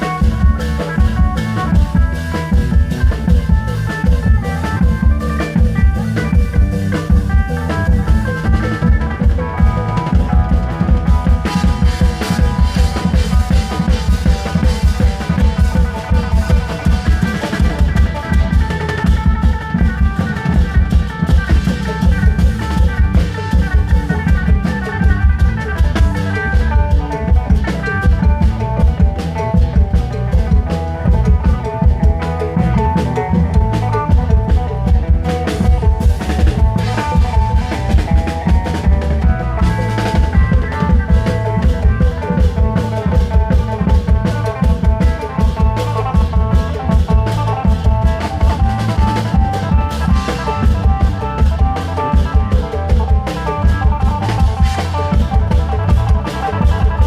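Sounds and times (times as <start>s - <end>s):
fast melodic line: 0.0s - 57.0s
long drums and drum kit beat: 0.0s - 57.0s.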